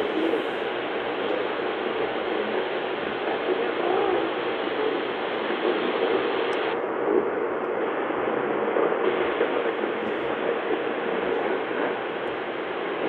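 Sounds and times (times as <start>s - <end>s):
radio static and hiss: 0.0s - 13.0s.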